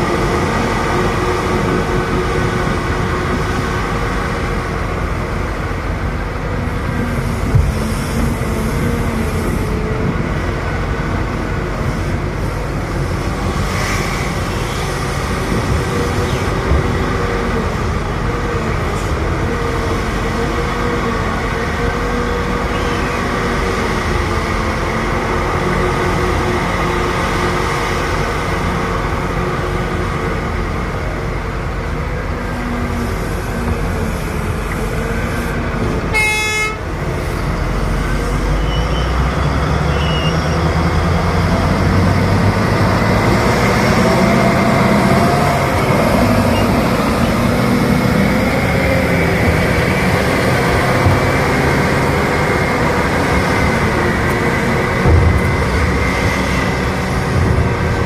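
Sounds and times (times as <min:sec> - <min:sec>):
heavy diesel machinery: 0:00.0 - 0:58.0.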